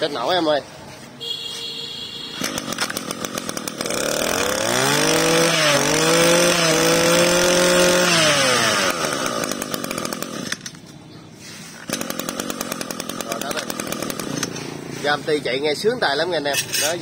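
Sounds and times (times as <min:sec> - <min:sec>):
brush cutter engine revving: 0:02.4 - 0:17.0.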